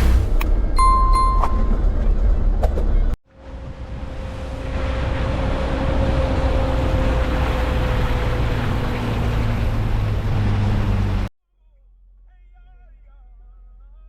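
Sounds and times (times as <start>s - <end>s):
motor vehicle running: 0.0s - 11.3s.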